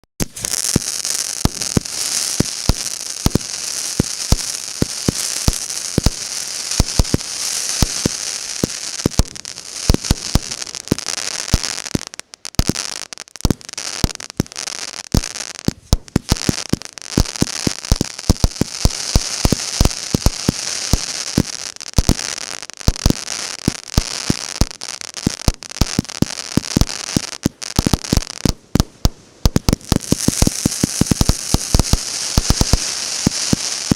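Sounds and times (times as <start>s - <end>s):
crackling hiss: 0.2s - 33.9s
fireworks shots and bursts: 0.2s - 33.9s.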